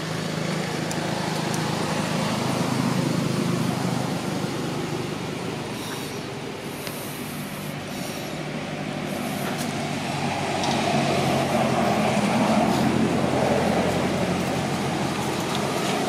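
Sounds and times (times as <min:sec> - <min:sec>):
low engine drone: 0:00.0 - 0:16.0
rushing noise: 0:01.1 - 0:16.0.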